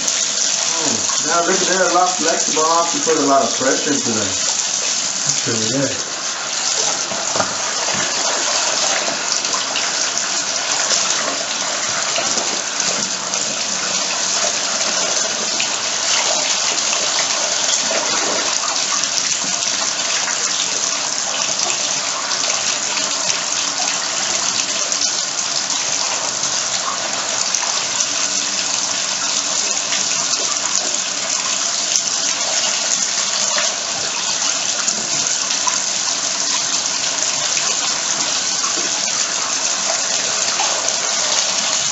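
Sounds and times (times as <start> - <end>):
tap running into bathtub: 0.0 - 41.9.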